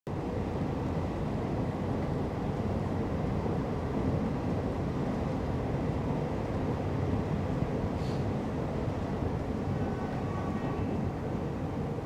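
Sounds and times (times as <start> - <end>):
train running low rumble: 0.1 - 12.0.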